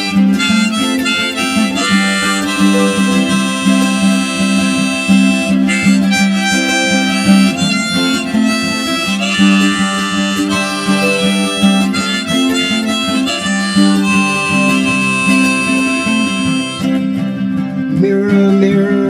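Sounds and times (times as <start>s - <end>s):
harmonica playing: 0.0s - 19.0s
strummed guitar: 0.0s - 19.0s.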